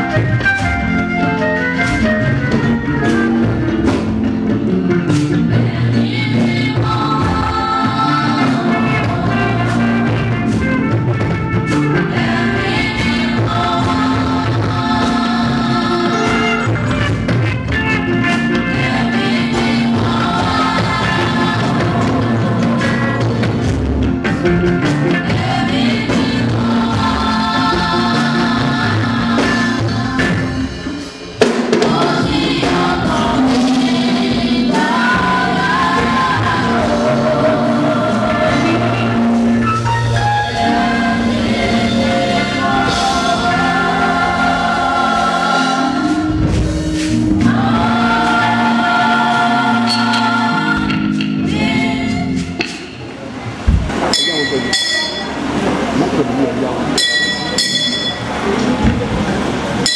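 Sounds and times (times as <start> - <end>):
choir singing gospel: 0.0 - 59.9
drums: 0.0 - 59.9.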